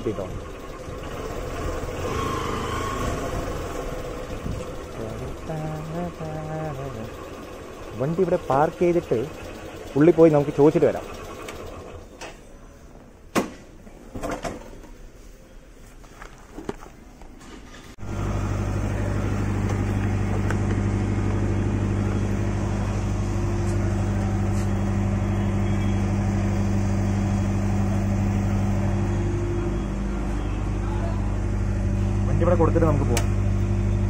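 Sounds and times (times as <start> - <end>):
low machine hum: 0.0 - 12.8, 18.0 - 34.0.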